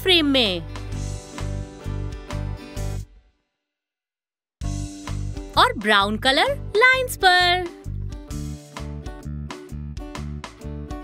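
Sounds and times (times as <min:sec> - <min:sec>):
background music with steady beat: 0:00.1 - 0:03.2, 0:04.6 - 0:11.0.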